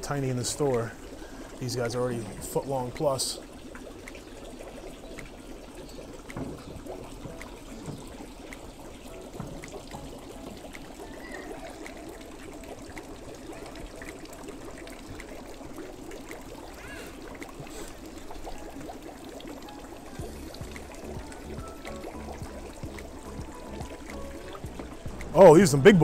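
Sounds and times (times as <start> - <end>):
water trickling and pouring: 0.0 - 26.0.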